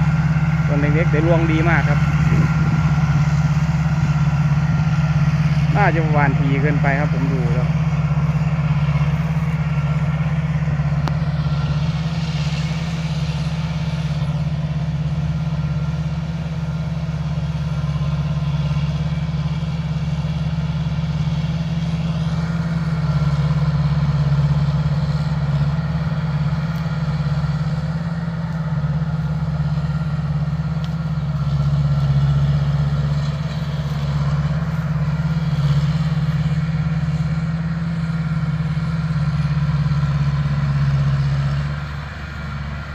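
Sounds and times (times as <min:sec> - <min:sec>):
combine harvester engine hum: 0:00.0 - 0:42.9.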